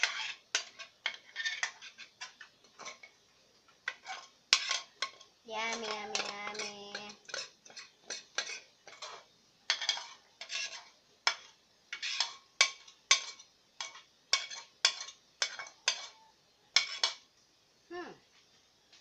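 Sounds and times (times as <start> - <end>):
metal spoon scraping frying pan: 0.0 - 3.2, 3.8 - 17.3.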